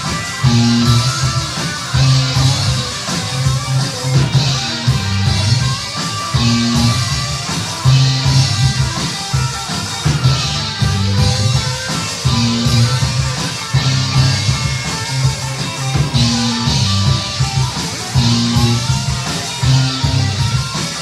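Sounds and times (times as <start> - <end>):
bass guitar: 0.0 - 21.0
drum kit with cymbals: 0.0 - 21.0
electric guitar lead lines: 0.0 - 21.0.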